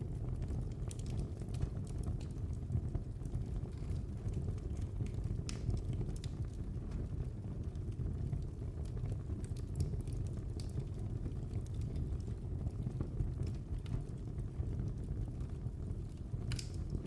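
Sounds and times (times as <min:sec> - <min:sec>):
fire crackling and popping: 0:00.0 - 0:17.0
wood fire rumbling: 0:00.0 - 0:17.0.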